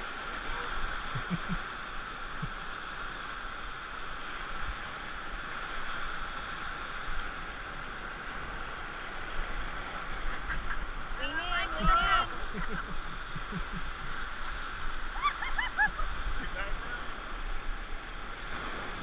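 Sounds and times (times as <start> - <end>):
whitewater rapid rushing: 0.0 - 19.0.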